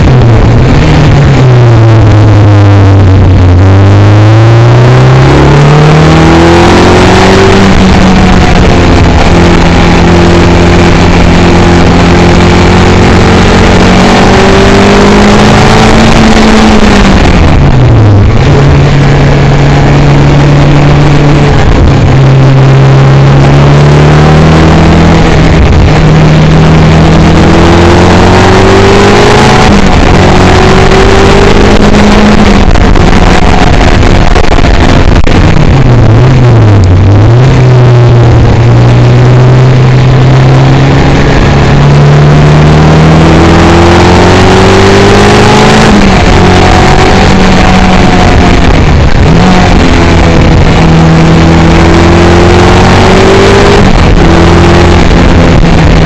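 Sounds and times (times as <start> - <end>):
sports car engine: 0.0 - 56.0
wind rush and road noise: 0.0 - 56.0.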